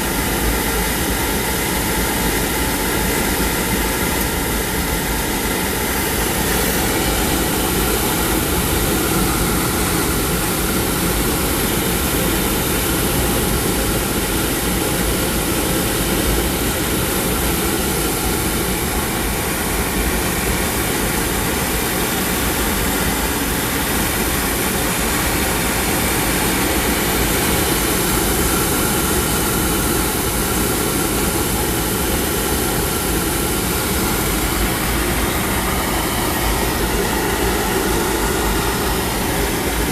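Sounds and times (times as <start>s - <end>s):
oil burner roaring: 0.0s - 39.9s.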